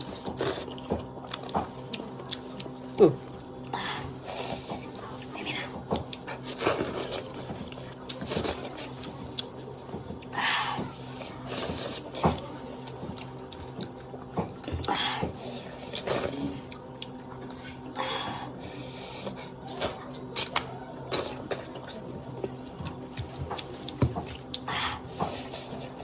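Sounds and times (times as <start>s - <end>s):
wet chewing and smacking: 0.0s - 18.0s, 19.2s - 26.0s.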